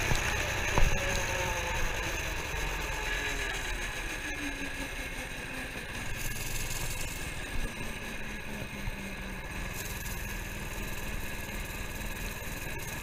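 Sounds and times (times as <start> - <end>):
minibike engine running: 0.0 - 13.0.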